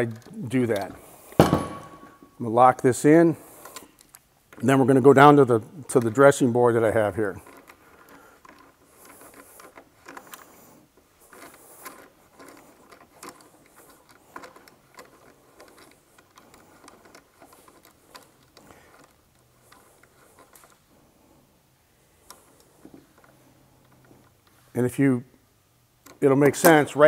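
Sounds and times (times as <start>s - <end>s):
wrench clicking and scraping: 0.0s - 20.9s, 26.0s - 27.0s.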